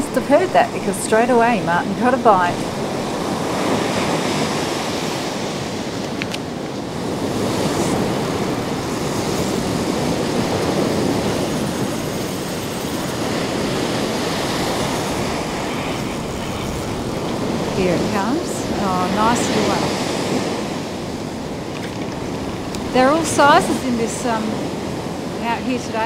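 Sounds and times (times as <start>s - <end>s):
surf washing up beach: 0.0s - 26.0s.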